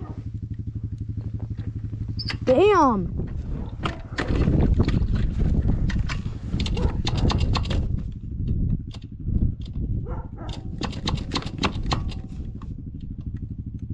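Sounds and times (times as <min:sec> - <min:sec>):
dirt bike engine running: 0:00.0 - 0:13.9
knocks and rattles from bike: 0:00.0 - 0:13.9.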